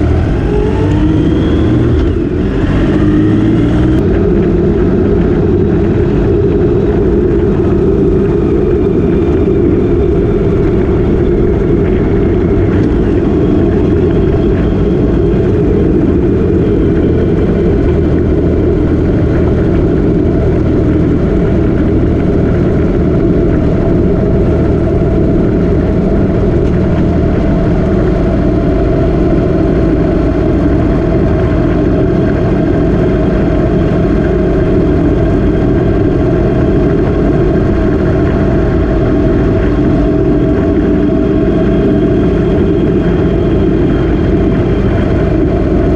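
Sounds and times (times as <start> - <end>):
motorcycle engine cruising: 0.0 - 45.9
wind rush on microphone: 0.0 - 45.9.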